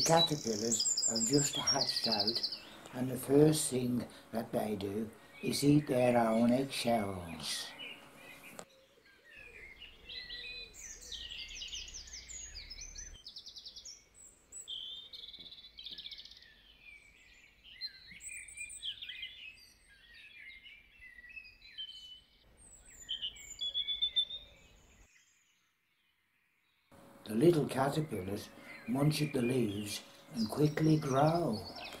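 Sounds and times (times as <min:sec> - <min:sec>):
songbirds singing: 0:00.0 - 0:32.0.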